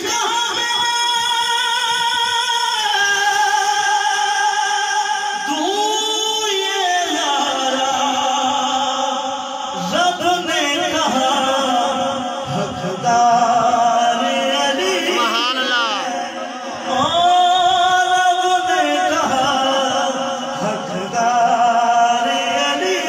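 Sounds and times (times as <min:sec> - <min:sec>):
man singing through loudspeaker: 0:00.0 - 0:23.0.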